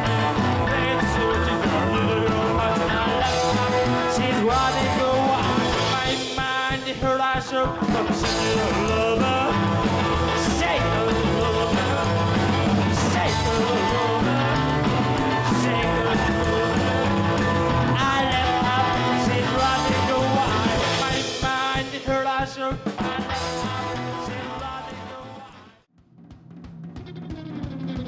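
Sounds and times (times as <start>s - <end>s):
rock and roll song: 0.0s - 25.9s, 26.5s - 28.0s.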